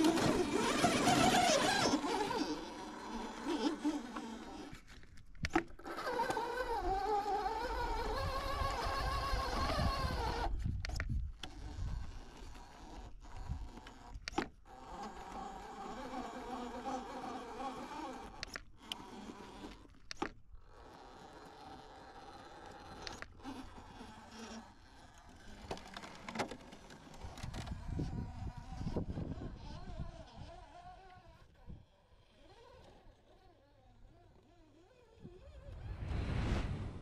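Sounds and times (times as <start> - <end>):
rc car motor whining: 0.0 - 36.1.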